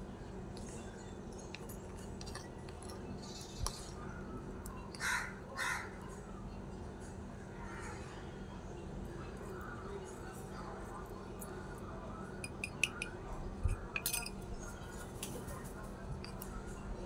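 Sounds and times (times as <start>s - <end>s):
outdoor background: 0.0s - 17.0s.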